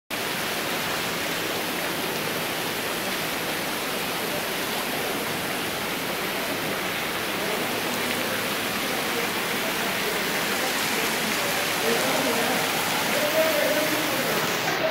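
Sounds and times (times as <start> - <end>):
waterfall hissing: 0.1 - 14.9.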